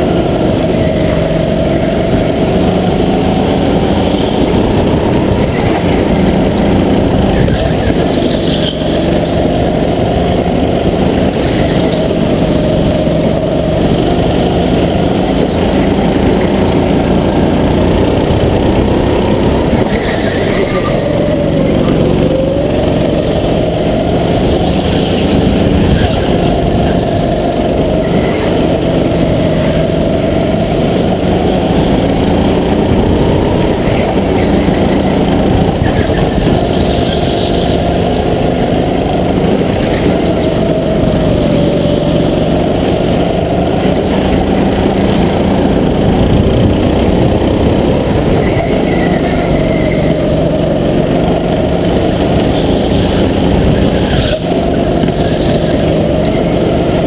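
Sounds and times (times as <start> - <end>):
go-kart engine running hard: 0.0 - 57.0
steady rush of noise: 0.0 - 57.0.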